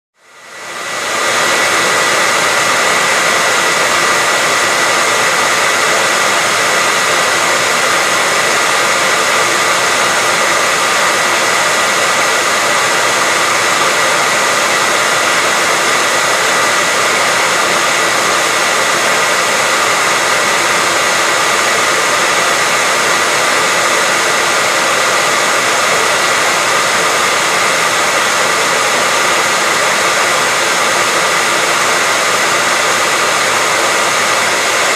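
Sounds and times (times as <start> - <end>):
hair dryer running: 0.2 - 34.9.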